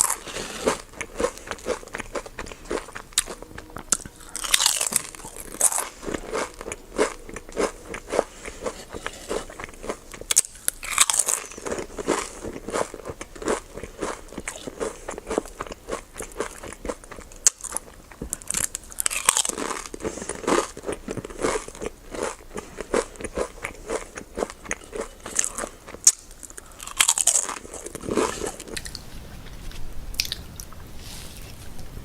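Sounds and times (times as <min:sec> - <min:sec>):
chewing crunchy food: 0:00.0 - 0:32.0.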